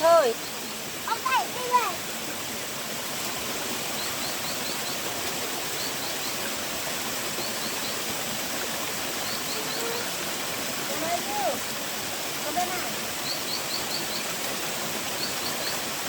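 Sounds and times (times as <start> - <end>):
forest stream rushing: 0.0 - 16.0.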